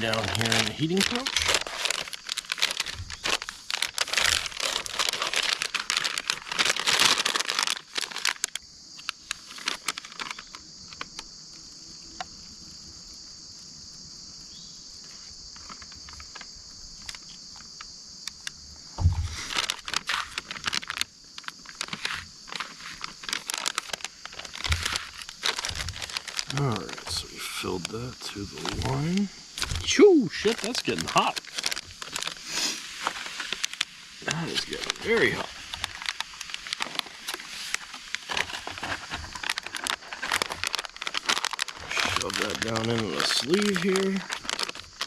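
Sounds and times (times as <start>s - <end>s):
plastic packaging crinkling: 0.0s - 11.3s, 15.5s - 17.4s, 19.2s - 45.0s
high insect buzz: 0.0s - 45.0s.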